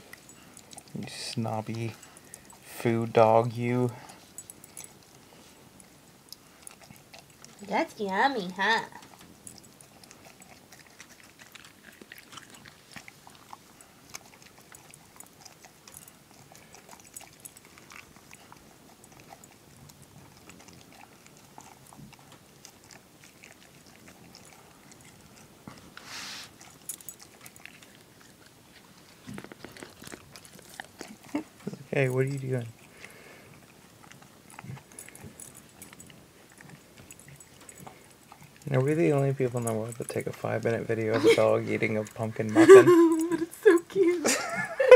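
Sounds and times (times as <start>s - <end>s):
dog chewing in metal bowl: 0.0s - 44.2s.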